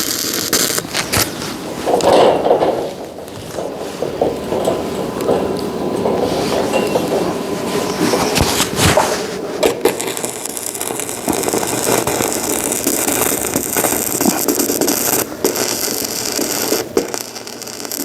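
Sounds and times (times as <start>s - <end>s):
welding arc crackling hiss: 0.0s - 18.0s.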